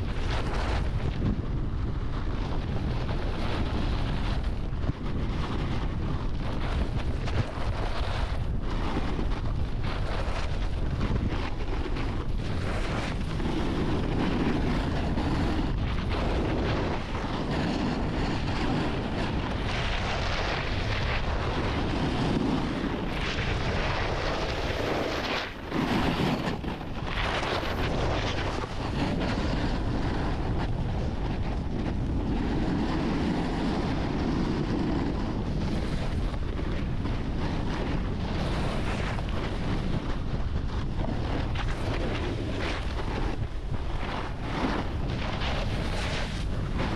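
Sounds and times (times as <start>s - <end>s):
snowboard scraping over snow: 0.0s - 46.9s
wind rushing over microphone: 0.0s - 46.9s.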